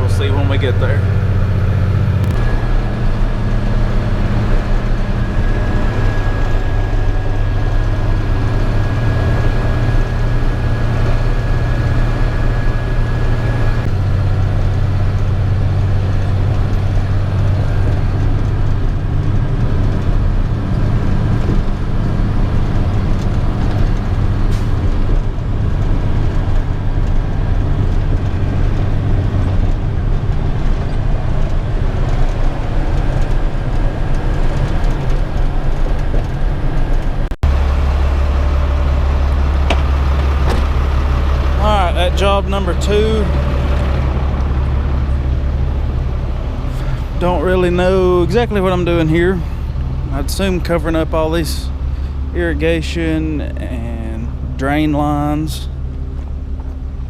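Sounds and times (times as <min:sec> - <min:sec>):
road noise: 0:00.0 - 0:57.0
truck engine hum: 0:00.0 - 0:57.0.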